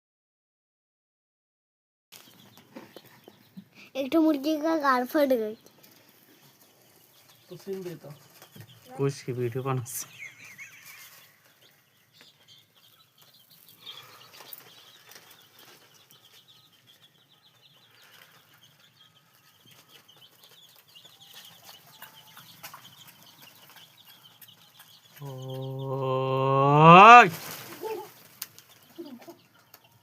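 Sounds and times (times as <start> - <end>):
faint high chirping: 2.2 - 30.0.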